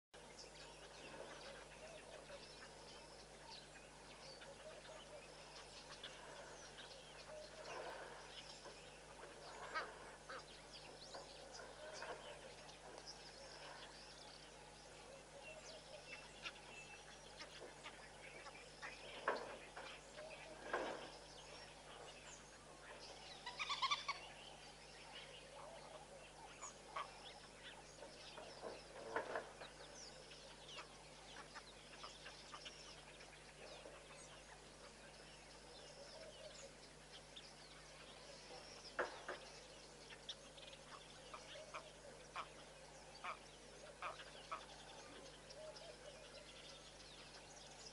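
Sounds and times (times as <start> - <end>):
bird calls and chirps: 0.2 - 47.9
faint low hum: 0.2 - 47.9.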